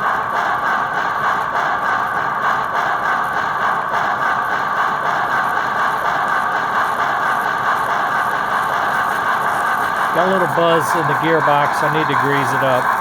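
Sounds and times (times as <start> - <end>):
model steam locomotive chuffing hiss: 0.0 - 13.0.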